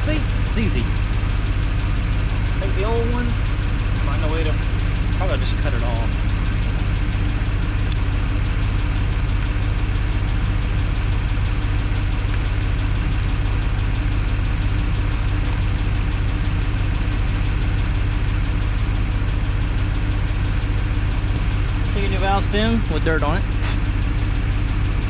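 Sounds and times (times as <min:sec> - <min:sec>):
excavator engine idling: 0:00.0 - 0:25.0.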